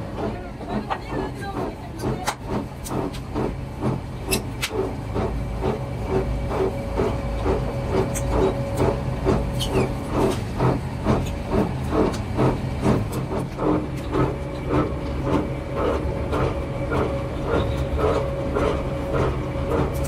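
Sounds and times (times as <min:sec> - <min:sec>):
rubber mill machine hum: 0:00.0 - 0:20.0.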